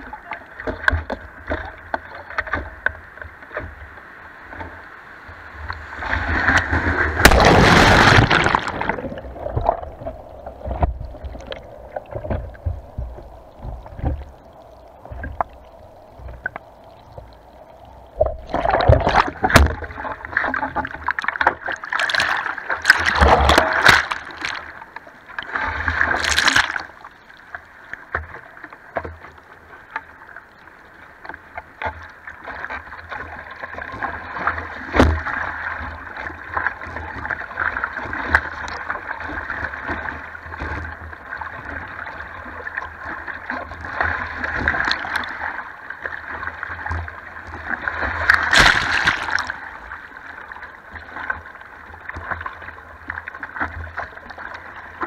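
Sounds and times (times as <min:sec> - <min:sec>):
sea water sloshing and splashing: 0:00.0 - 0:55.0.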